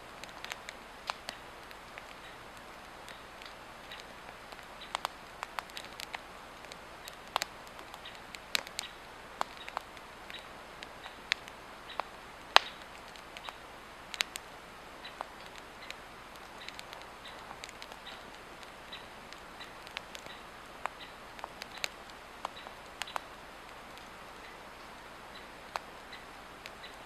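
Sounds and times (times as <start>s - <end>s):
log fire crackling and popping: 0.0s - 27.0s.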